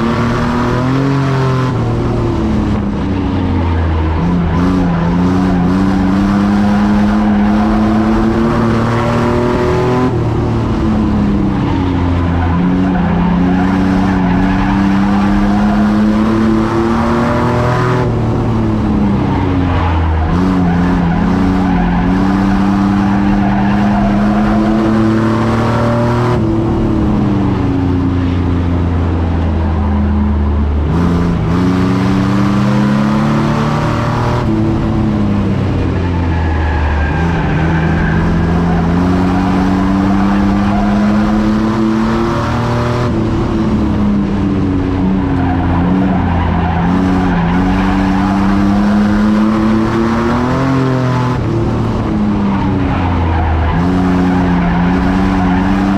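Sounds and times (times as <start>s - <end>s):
racing truck engine revving: 0.0s - 55.9s
road and tyre noise: 0.0s - 55.9s.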